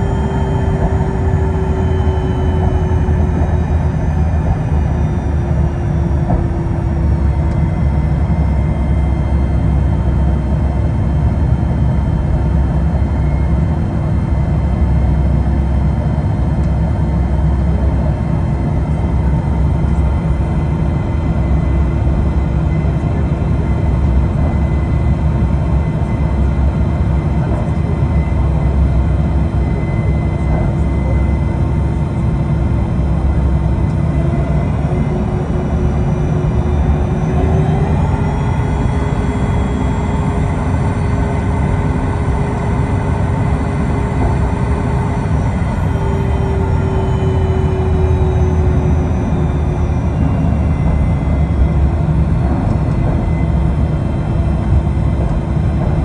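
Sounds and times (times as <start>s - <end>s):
jet engines humming and whining: 0.0s - 56.0s
low cabin rumble: 0.0s - 56.0s.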